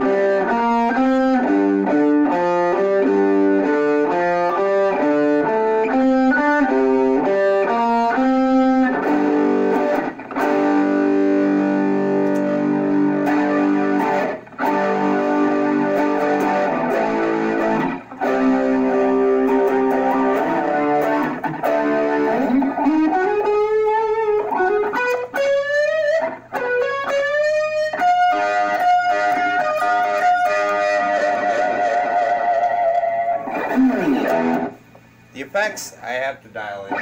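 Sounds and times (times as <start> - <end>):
distorted electric guitar: 0.0 - 35.2.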